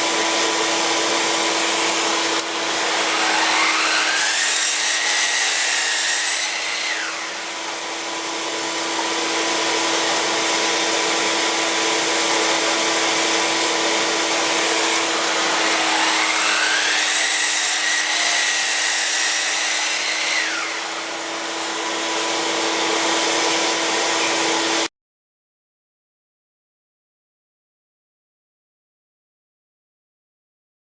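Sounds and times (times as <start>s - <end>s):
miter saw cutting wood: 0.0s - 24.9s.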